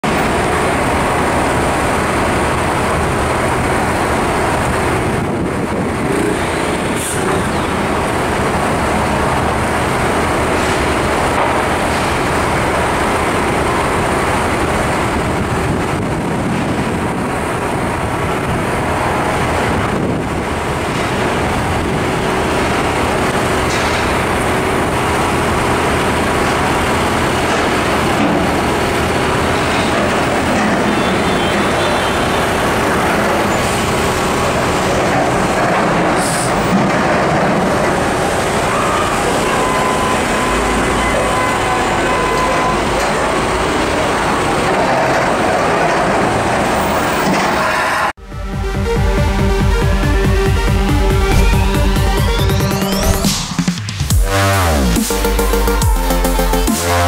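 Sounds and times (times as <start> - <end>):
truck diesel engine running: 0.0 - 47.2, 48.2 - 57.0
city traffic on wet road: 0.0 - 48.2, 50.8 - 52.0.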